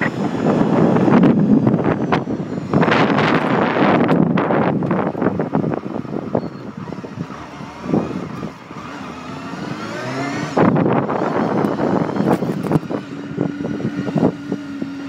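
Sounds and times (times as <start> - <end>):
rush of noise: 0.0 - 14.3
motorcycle engine accelerating: 0.0 - 15.0
wind buffeting microphone: 0.0 - 15.0.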